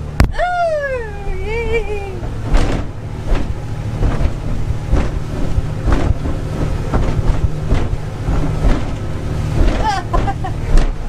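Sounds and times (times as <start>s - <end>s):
hull thudding on waves: 0.0s - 11.0s
speedboat engine running: 0.0s - 11.0s
wind buffeting microphone: 1.1s - 11.0s.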